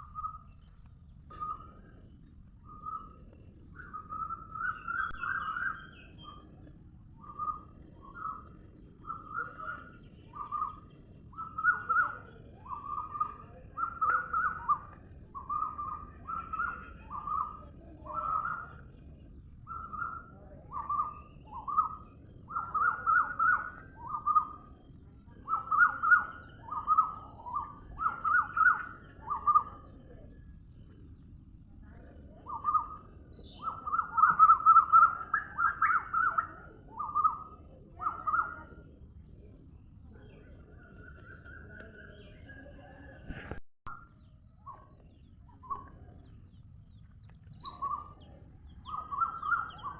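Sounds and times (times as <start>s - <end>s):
bird calling slurred notes: 0.0s - 6.6s, 7.2s - 30.2s, 32.1s - 39.0s, 44.6s - 49.9s.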